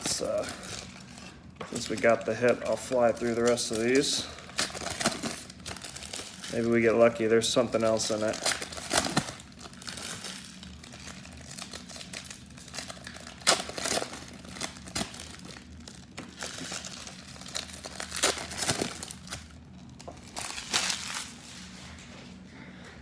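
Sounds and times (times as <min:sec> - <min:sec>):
card pack wrappers crinkling: 0:00.0 - 0:21.8.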